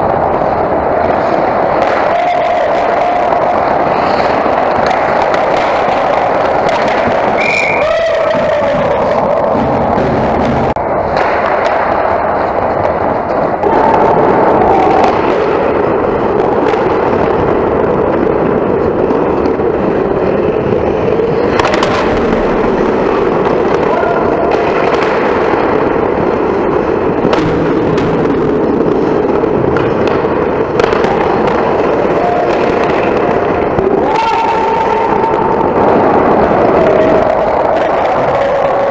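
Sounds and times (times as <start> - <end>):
hockey sticks and puck clacking: 0.0 - 38.9
skates scraping on ice: 0.0 - 38.9.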